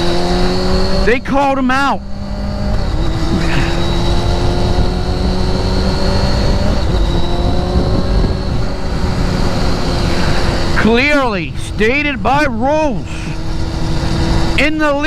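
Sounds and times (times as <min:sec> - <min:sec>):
road rumble: 0:00.0 - 0:15.0
vehicle engine drone: 0:00.0 - 0:15.0.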